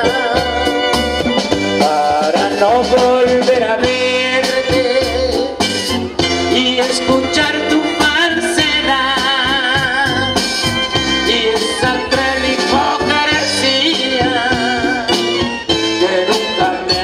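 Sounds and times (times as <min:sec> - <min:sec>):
live latin band playing: 0:00.0 - 0:17.0.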